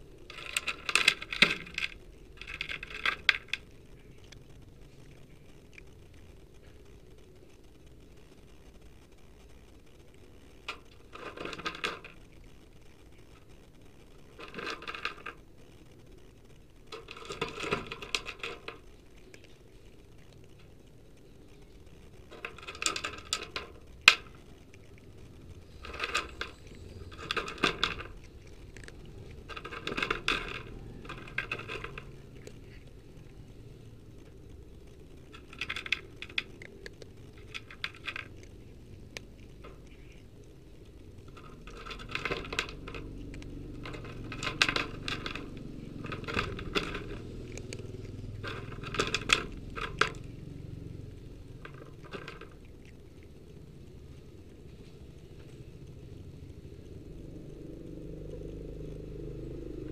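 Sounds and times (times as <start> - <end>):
cat crunching dry kibble: 0.0 - 59.9.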